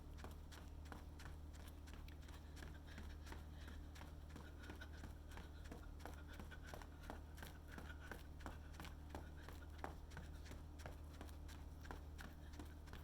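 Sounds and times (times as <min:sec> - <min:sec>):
jogging footsteps: 0:00.0 - 0:13.0
low steady hum: 0:00.0 - 0:13.0.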